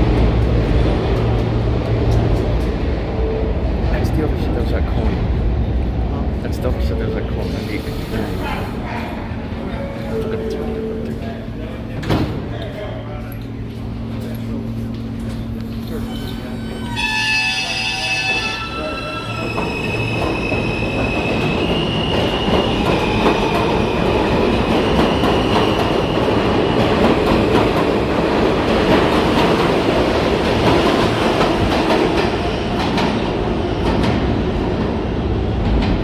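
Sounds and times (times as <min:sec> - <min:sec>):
subway train wheels clattering: 0:00.0 - 0:36.0.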